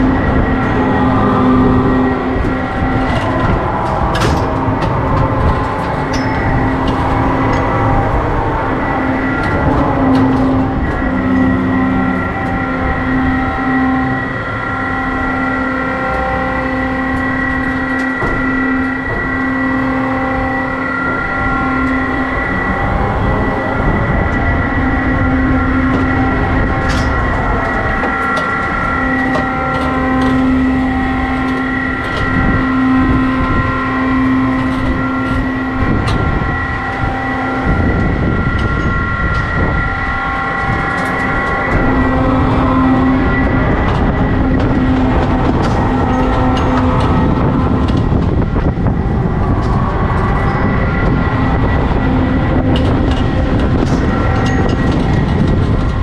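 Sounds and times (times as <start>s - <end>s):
low rumble: 0.0s - 56.0s
ride mechanical hum and whine: 0.0s - 56.0s.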